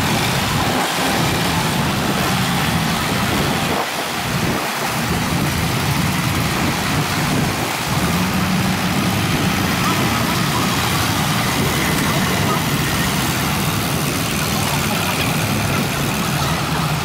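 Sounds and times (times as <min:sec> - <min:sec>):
tractor engines running: 0:00.0 - 0:17.0.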